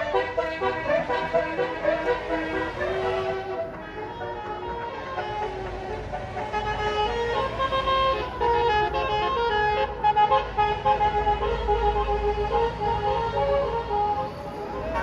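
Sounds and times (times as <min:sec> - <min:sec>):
bus engine rumbling: 0:00.0 - 0:15.0
multi-tone air horn tune: 0:00.0 - 0:15.0.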